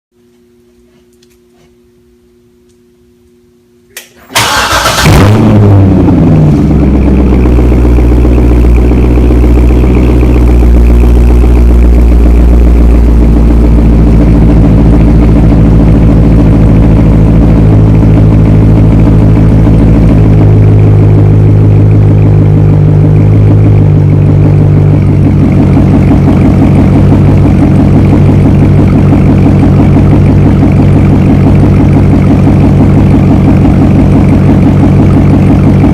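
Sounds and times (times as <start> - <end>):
car engine cranking and idling: 4.0 - 35.9.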